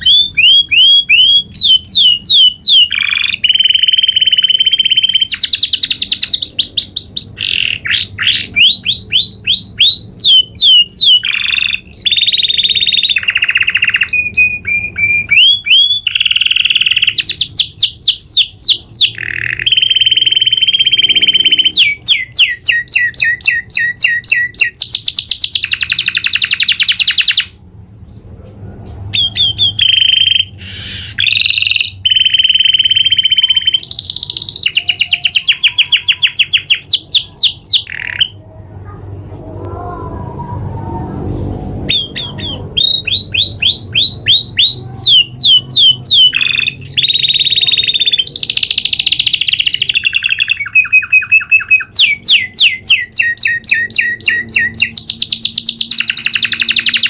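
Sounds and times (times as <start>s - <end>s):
canary singing trills: 0.0s - 39.2s, 40.6s - 57.0s.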